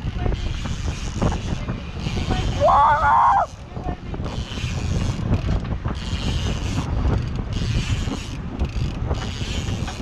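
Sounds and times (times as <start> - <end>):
fishing reel drag buzzing: 0.0 - 10.0
wind: 0.0 - 10.0.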